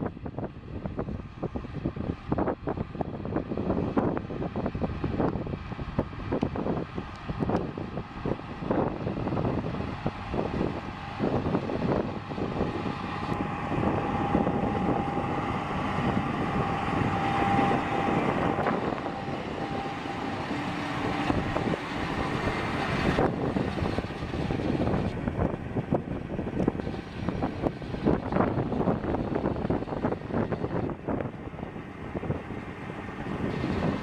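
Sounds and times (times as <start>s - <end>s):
baler and tractor running: 0.0s - 34.0s
faint mechanical whine: 0.0s - 34.0s
wind on microphone: 0.0s - 34.0s.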